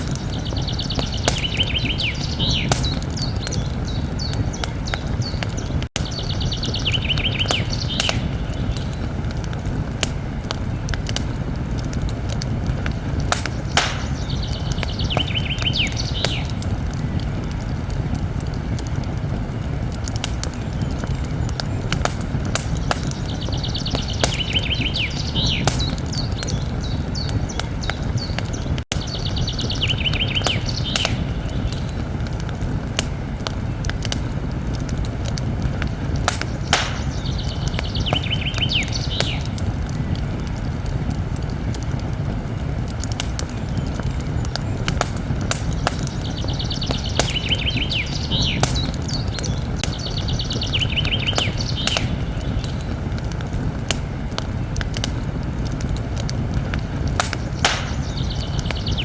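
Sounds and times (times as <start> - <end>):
songbird singing: 0.0 - 11.1, 12.8 - 17.4, 20.4 - 34.3, 35.4 - 40.6, 43.3 - 53.4, 56.8 - 59.0
campfire crackling and popping: 0.0 - 59.0.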